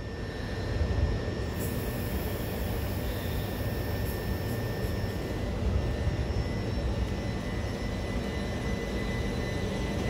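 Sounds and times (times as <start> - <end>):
high electric whine: 0.0 - 10.0.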